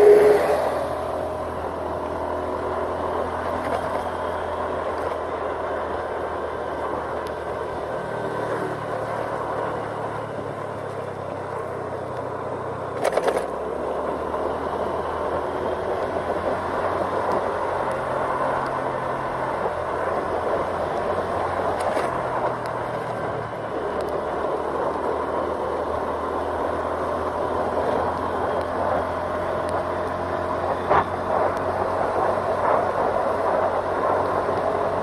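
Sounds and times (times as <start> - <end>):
road noise: 0.0 - 35.0
vehicle engine droning: 0.0 - 35.0.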